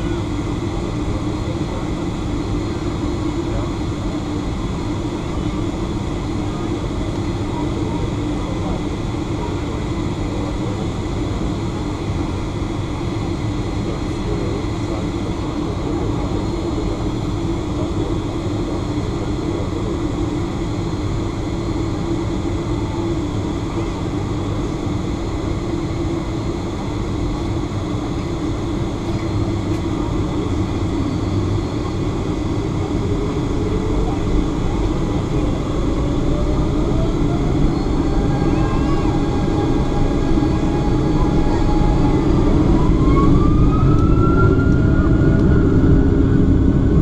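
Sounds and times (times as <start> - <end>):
aircraft cabin hum and rumble: 0.0 - 47.0.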